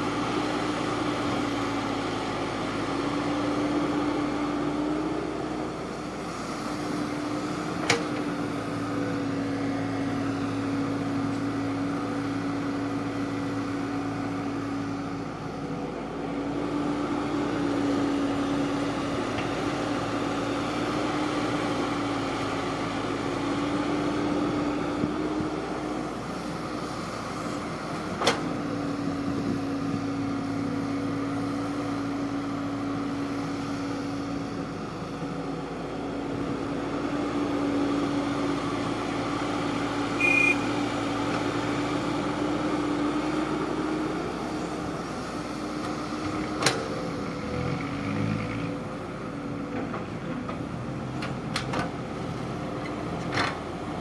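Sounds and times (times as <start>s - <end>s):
harvester engine droning: 0.0s - 54.0s.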